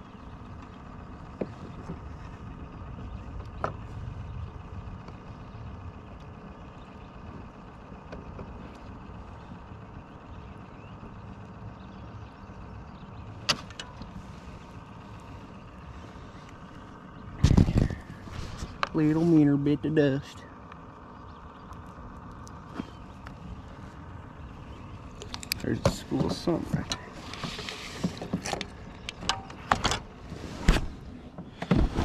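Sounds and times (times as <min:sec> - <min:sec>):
low open air rumble: 0:00.0 - 0:32.0.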